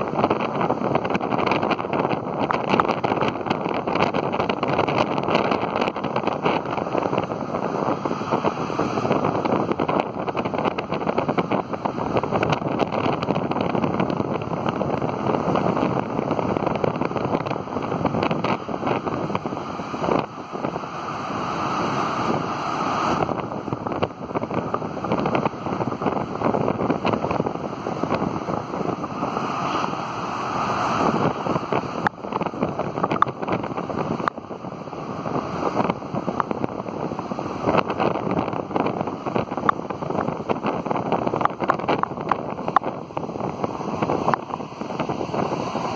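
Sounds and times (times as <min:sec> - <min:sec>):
waves crashing against rocks: 0:00.0 - 0:45.9
wind buffeting microphone: 0:00.0 - 0:45.9.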